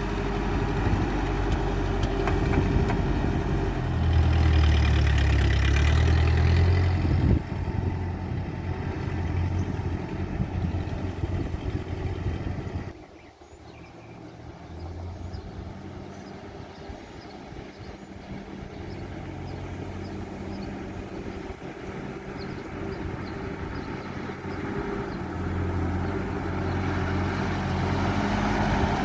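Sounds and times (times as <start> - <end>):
tractor engine running: 0.0 - 13.0, 14.0 - 29.0.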